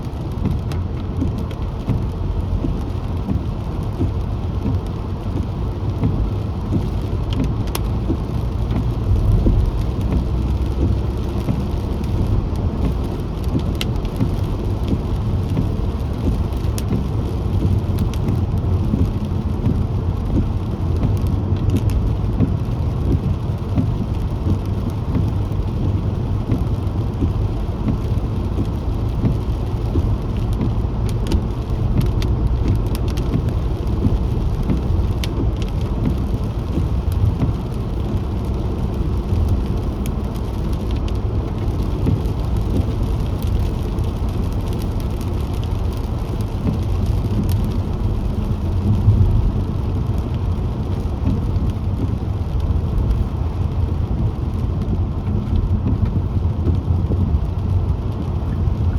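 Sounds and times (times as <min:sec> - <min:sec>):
car driving on wet road: 0:00.0 - 0:58.9
rain: 0:00.0 - 0:58.9.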